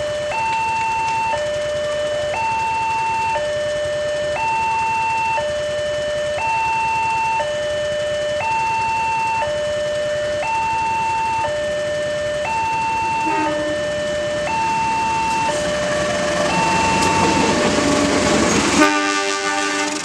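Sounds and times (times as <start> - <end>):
two-tone crossing warning siren: 0.0 - 20.0.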